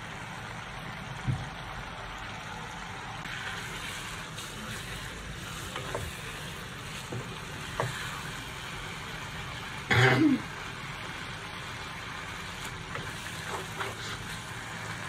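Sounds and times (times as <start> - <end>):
sauce sizzling in a wok: 0.0 - 15.0.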